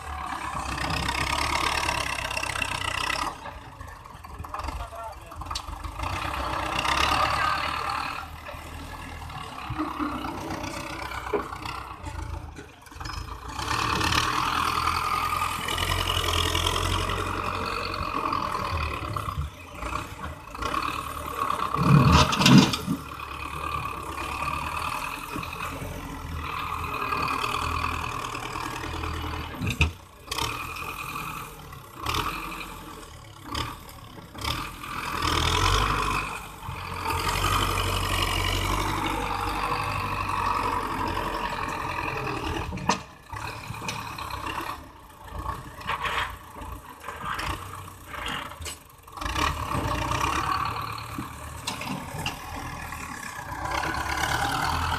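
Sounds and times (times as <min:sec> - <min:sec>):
diesel tractor engine revving: 0:00.0 - 0:54.9.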